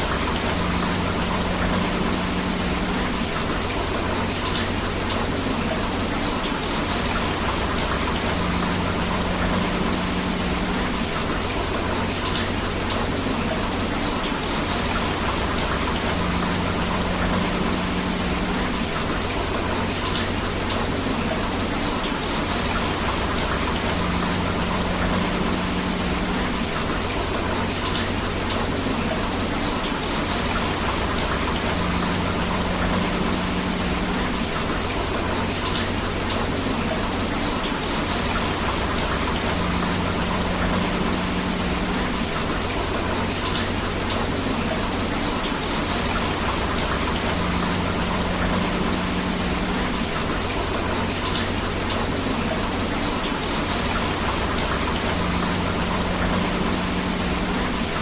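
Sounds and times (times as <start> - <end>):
river water flowing: 0.0 - 58.0
steady rain falling: 0.0 - 58.0.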